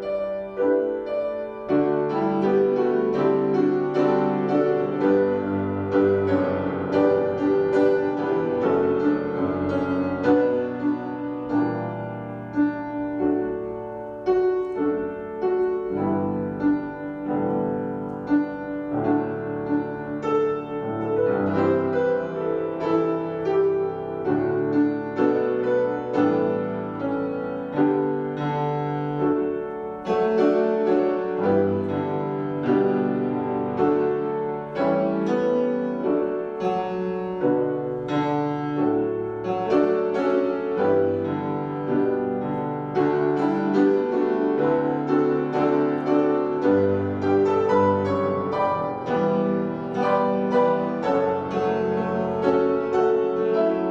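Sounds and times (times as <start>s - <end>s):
slow gentle solo piano: 0.0s - 53.9s.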